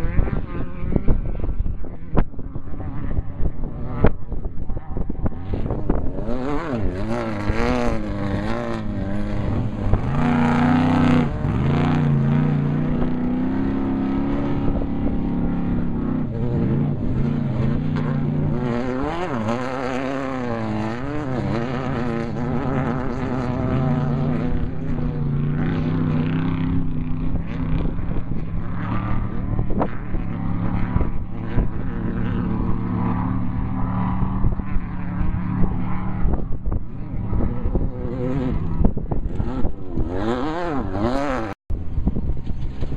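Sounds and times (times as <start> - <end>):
race engines revving: 0.0 - 42.9.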